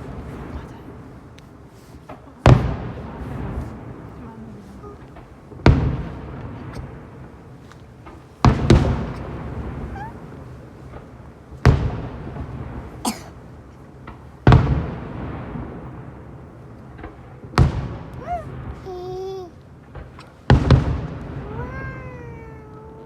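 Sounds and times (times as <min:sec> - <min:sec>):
fireworks crackle: 0:00.0 - 0:23.0.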